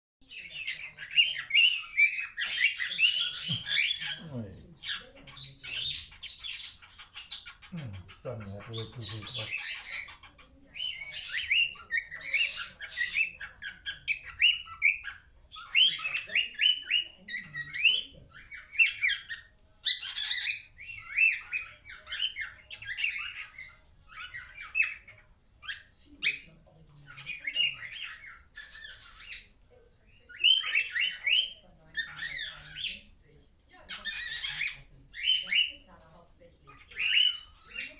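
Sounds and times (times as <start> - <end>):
cockatiel squeaking and chattering: 0.2 - 37.9.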